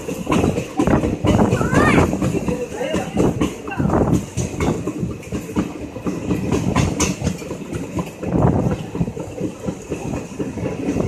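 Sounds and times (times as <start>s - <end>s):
clicks over rail joints: 0.0s - 11.0s
train wheels rumbling on rail: 0.0s - 11.0s.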